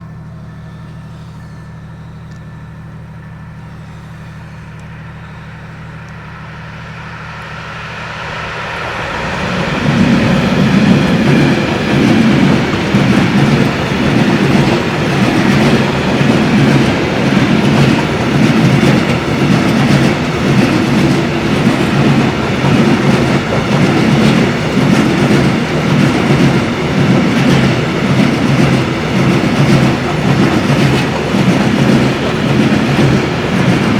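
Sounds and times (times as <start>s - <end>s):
electric train humming: 0.0s - 33.9s
train rumble and wheel clatter: 0.0s - 33.9s.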